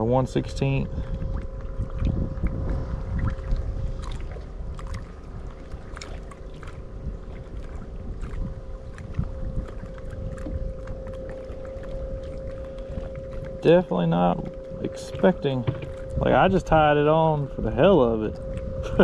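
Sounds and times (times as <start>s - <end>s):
electric motor high hum: 0.0s - 19.0s
water lapping against hull: 0.0s - 19.0s
wind rumble on microphone: 0.0s - 19.0s.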